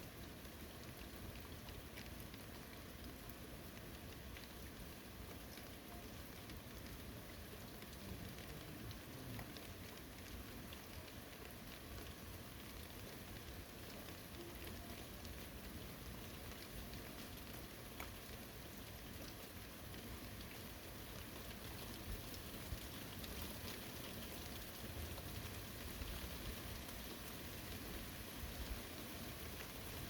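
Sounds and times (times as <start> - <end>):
gentle rain falling: 0.0 - 30.0
raindrops ticking on surfaces: 0.0 - 30.0.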